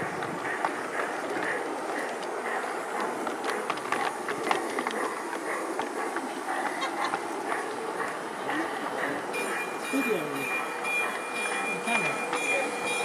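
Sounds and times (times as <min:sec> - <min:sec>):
track clicks: 0:00.0 - 0:13.0.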